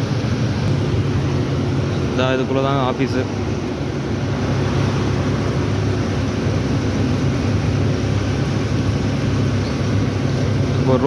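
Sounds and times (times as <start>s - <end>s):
diesel engine drone: 0.0s - 11.0s
road noise: 0.0s - 11.0s.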